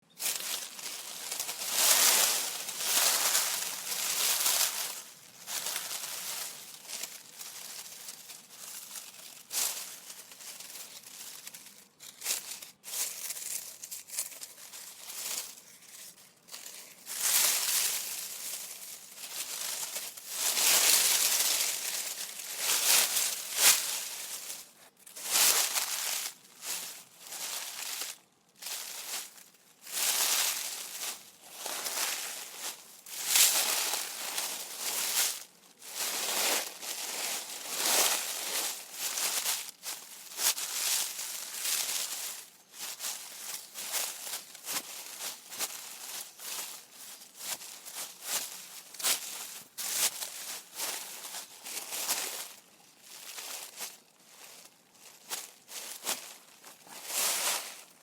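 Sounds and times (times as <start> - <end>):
leaves rustling and crunching: 0.0 - 58.0.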